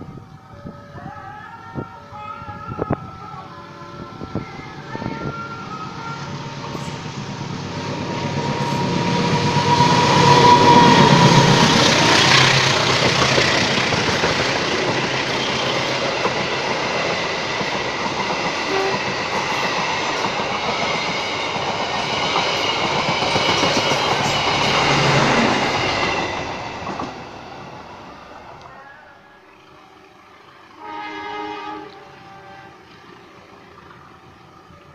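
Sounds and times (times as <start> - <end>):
train passing: 0.0 - 34.9.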